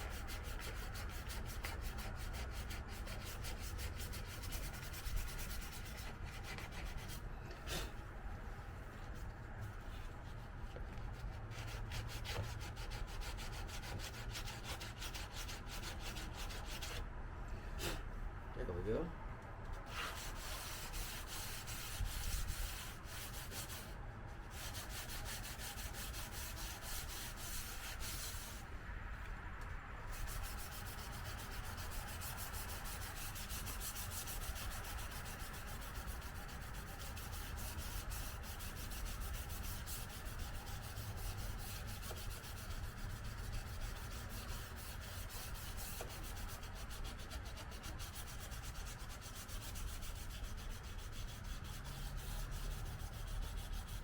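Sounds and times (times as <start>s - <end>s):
sandpaper rubbing on car panel: 0.0s - 8.0s, 9.0s - 17.0s, 19.8s - 28.6s, 30.1s - 54.0s.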